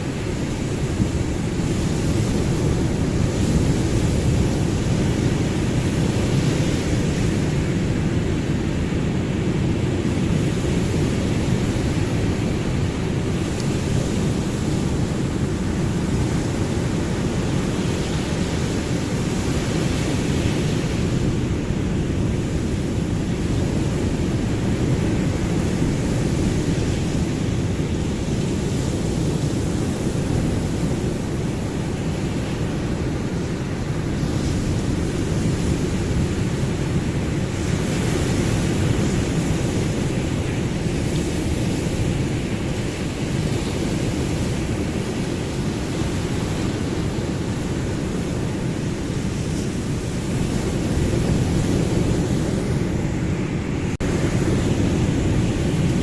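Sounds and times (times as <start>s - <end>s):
ocean surf rushing: 0.0s - 56.0s.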